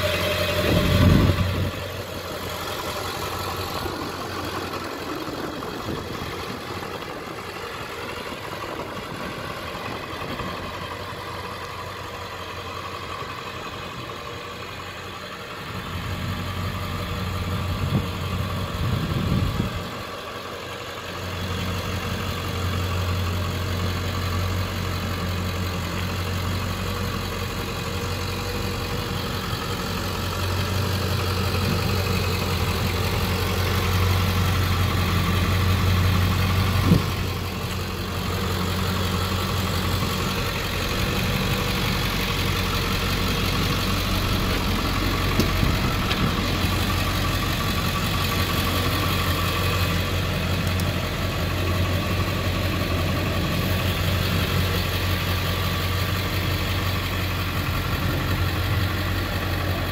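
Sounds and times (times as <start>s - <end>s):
diesel engine idling: 0.0s - 59.9s
engine knock: 0.0s - 59.9s.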